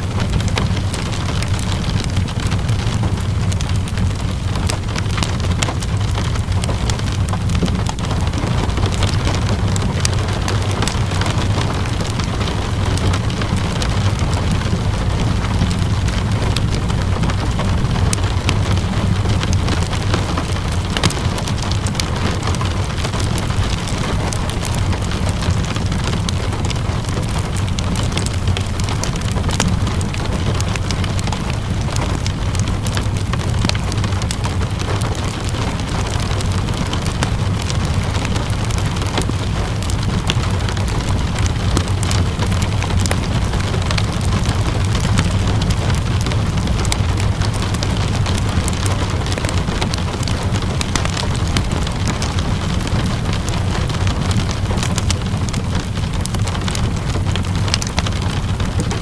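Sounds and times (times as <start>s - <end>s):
low even rumble: 0.0s - 59.0s
steady rainfall: 0.0s - 59.0s
wood fire crackling: 0.0s - 59.0s.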